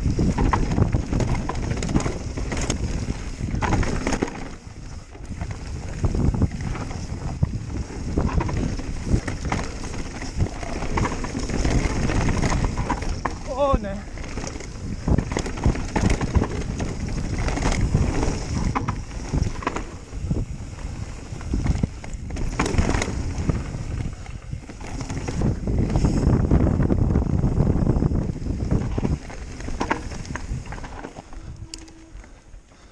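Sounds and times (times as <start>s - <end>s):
bike rattling and knocking: 0.0s - 32.0s
bike tyres on dirt: 0.0s - 32.9s
wind rushing over microphone: 0.0s - 32.9s.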